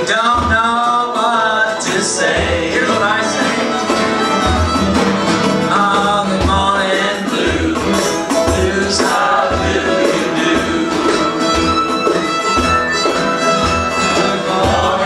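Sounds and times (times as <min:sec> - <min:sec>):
strummed acoustic guitars: 0:00.0 - 0:15.0
harmonica: 0:01.4 - 0:15.0
fiddle: 0:02.4 - 0:15.0.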